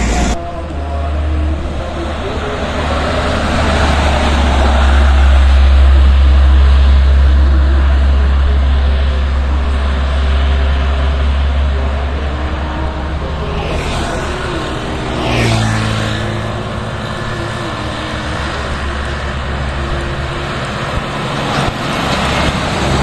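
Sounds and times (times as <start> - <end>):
diesel truck driving past: 0.0 - 23.0.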